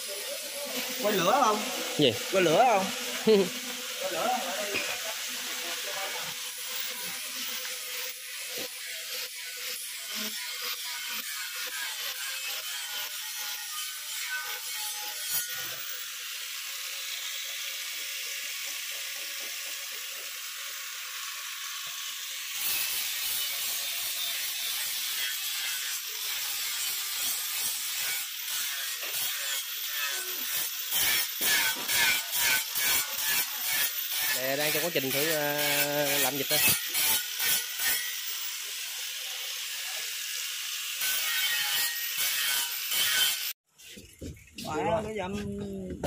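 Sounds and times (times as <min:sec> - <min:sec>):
angle grinder grinding metal: 0:00.0 - 0:43.6.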